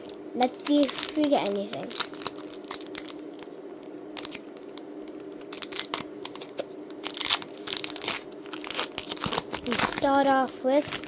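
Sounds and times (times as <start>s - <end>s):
faint steady hum: 0.0s - 11.0s
foil wrapper tearing and crinkling: 0.0s - 11.0s.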